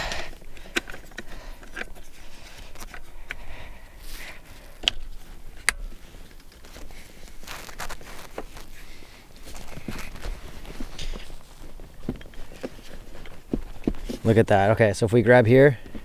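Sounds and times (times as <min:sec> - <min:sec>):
seatbelt webbing rustling: 0:00.3 - 0:14.6.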